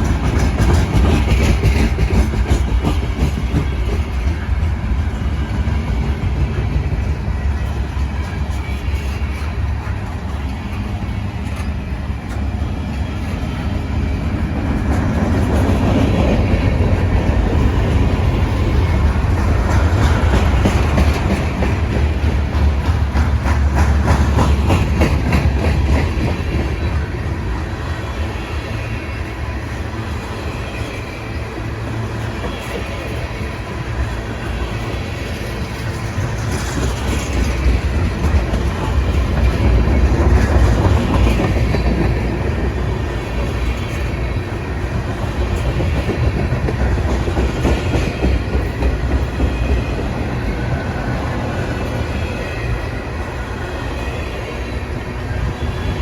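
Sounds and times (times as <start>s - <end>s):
freight train rumbling: 0.0s - 56.0s.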